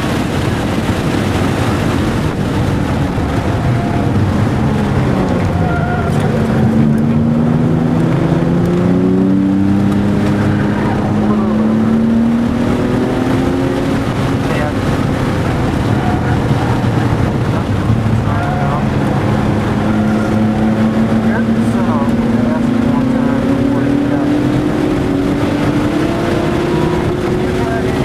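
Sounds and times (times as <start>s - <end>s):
car engine accelerating: 0.0s - 28.0s
road and wind noise: 0.0s - 28.0s.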